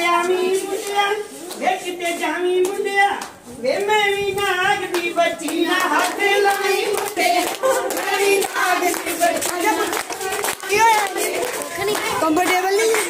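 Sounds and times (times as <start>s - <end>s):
rhythmic hand clapping: 0.0s - 13.0s
women singing together: 0.0s - 13.0s.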